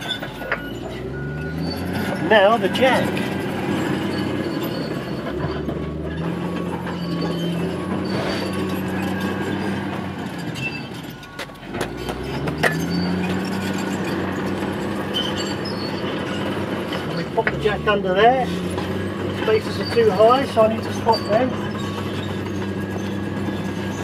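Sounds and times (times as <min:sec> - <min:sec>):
heavy engine running: 0:00.0 - 0:24.0.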